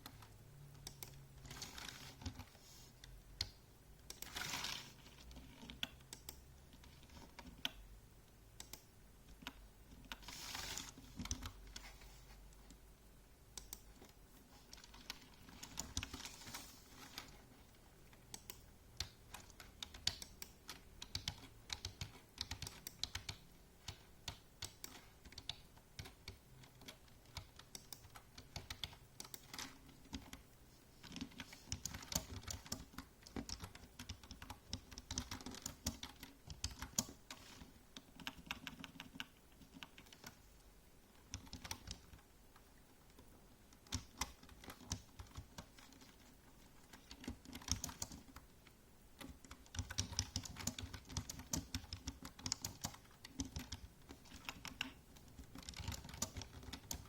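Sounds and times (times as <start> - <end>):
typing on computer keyboard: 0.0 - 2.6, 3.4 - 7.8, 8.6 - 11.9, 13.6 - 17.4, 18.1 - 40.5, 41.2 - 42.3, 43.1 - 48.5, 49.2 - 57.0.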